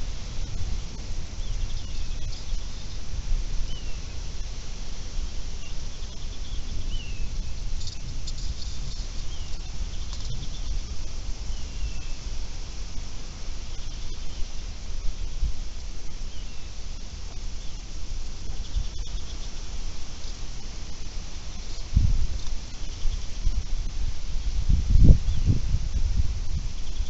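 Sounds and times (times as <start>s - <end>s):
bird chirping: 0.0s - 13.0s, 13.6s - 20.4s, 21.4s - 23.6s, 26.7s - 27.0s
wind rumble: 0.0s - 27.0s.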